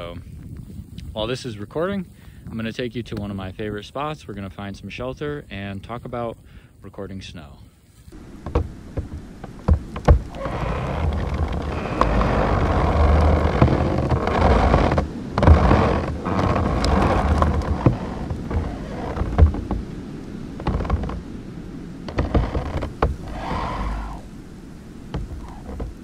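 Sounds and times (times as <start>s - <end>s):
tree wood creaking and popping: 0.0s - 6.5s, 7.9s - 26.0s
gusting wind with deep rumble: 0.0s - 26.0s.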